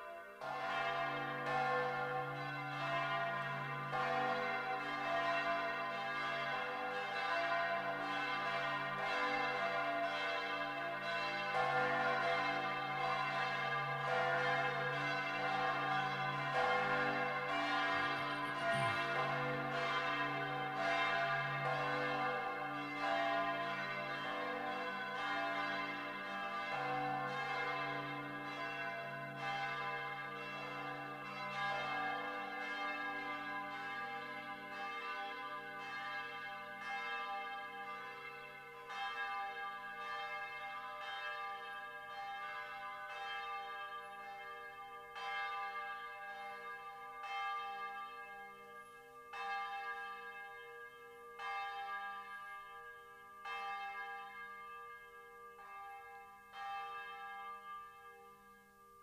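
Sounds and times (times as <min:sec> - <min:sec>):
church bells pealing: 0:00.0 - 0:58.8.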